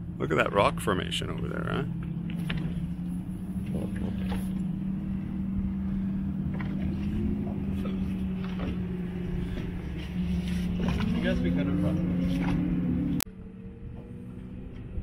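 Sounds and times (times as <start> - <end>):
motorboat engine droning: 0.0 - 15.0.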